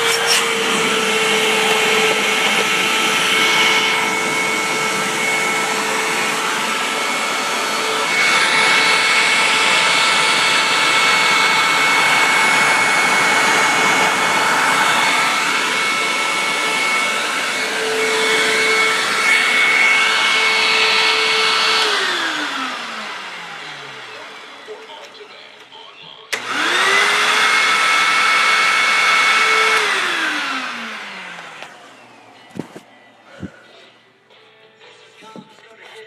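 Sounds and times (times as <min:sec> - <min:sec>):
upright vacuum cleaner whining: 0:00.0 - 0:35.7.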